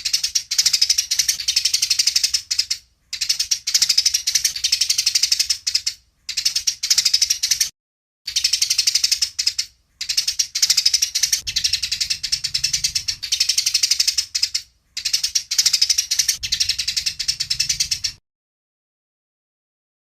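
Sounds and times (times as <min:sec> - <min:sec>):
sparrows chattering: 0:00.0 - 0:07.7, 0:08.3 - 0:18.2.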